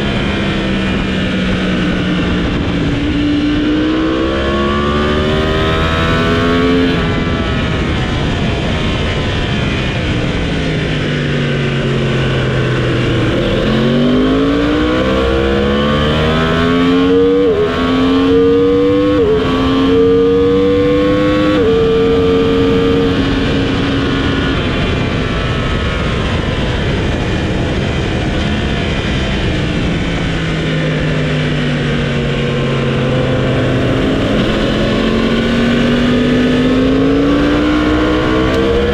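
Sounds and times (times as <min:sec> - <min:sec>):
steady rushing noise: 0:00.0 - 0:17.5, 0:20.6 - 0:38.9
motorcycle engine accelerating: 0:00.0 - 0:38.9.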